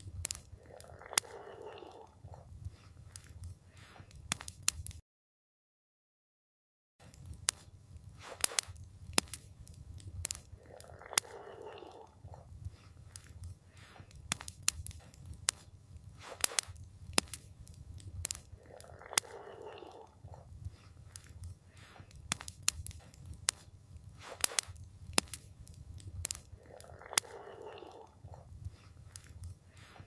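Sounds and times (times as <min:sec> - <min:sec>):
campfire crackling and popping: 0:00.0 - 0:05.0, 0:07.0 - 0:30.0.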